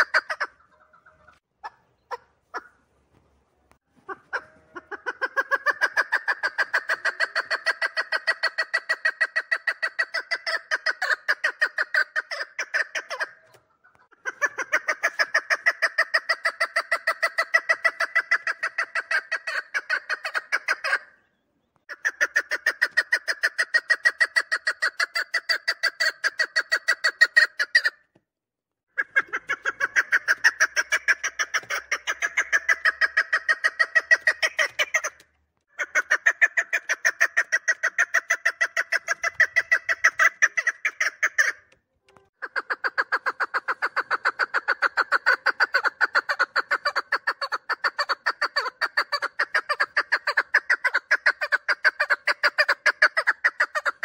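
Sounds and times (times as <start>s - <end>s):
partridge chuck calls: 0.0s - 2.9s, 4.0s - 28.1s, 28.9s - 41.8s, 42.4s - 54.0s.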